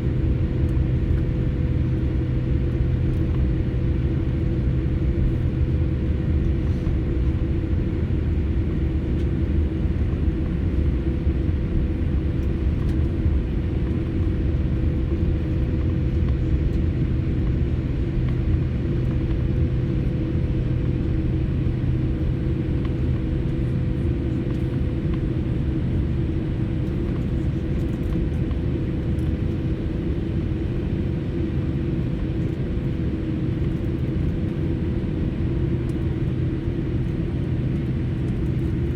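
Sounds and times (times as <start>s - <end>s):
airliner cabin rumble and hum: 0.0s - 38.9s.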